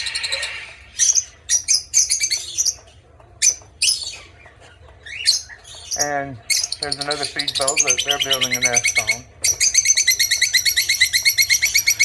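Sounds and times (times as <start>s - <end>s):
small parrots chirping: 0.0s - 12.0s.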